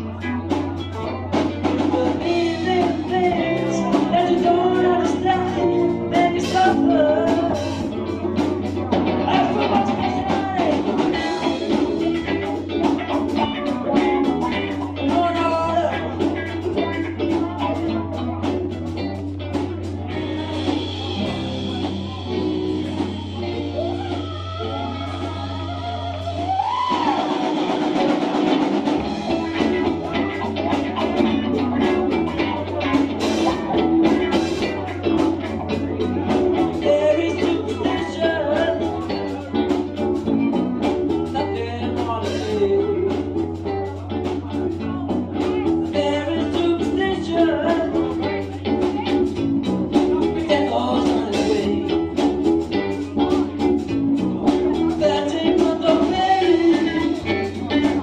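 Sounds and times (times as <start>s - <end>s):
drum kit: 0.0s - 58.0s
live rock band playing: 0.0s - 58.0s
person singing: 0.0s - 58.0s.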